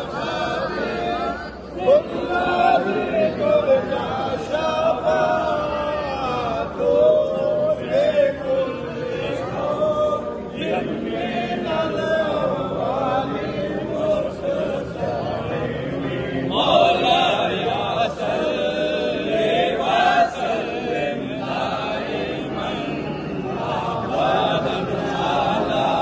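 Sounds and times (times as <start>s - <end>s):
crowd of men chanting: 0.0s - 26.0s.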